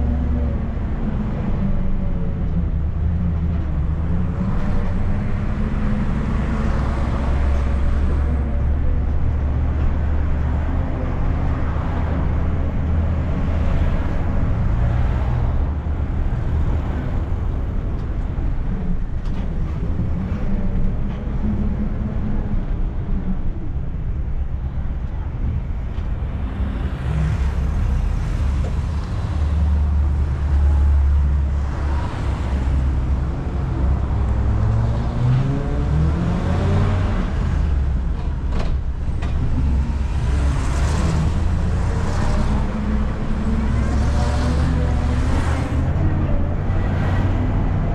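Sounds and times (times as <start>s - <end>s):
minibus engine rumble: 0.0s - 47.9s
road noise: 0.0s - 47.9s.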